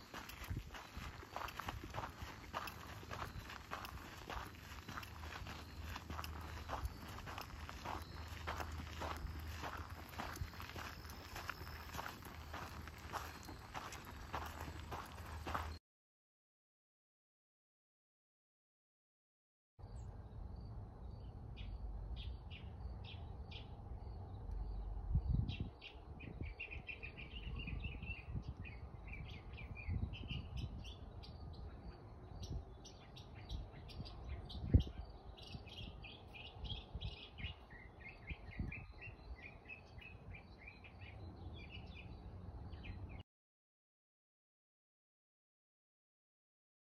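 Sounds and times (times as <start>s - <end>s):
small birds chirping: 0.0s - 15.8s, 21.2s - 43.2s.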